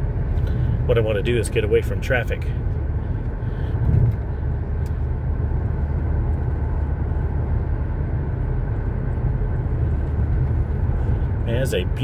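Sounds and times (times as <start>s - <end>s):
car engine cruising: 0.0s - 12.0s
road and tyre noise: 0.0s - 12.0s.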